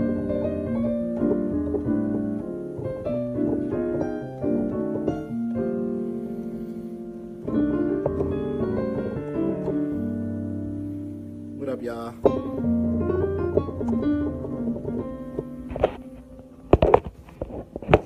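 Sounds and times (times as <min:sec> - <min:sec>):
keyboard piano chords and runs: 0:00.0 - 0:18.0.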